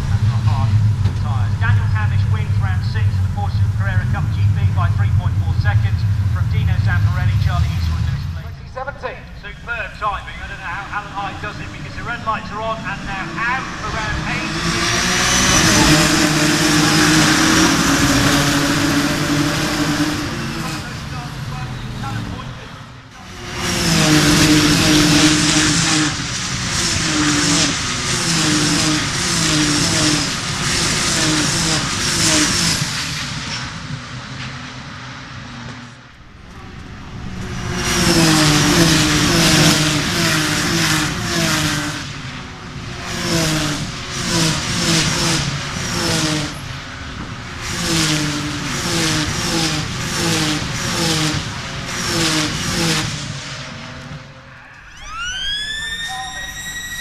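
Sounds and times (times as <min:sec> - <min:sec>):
race cars accelerating past: 0:10.0 - 0:57.0.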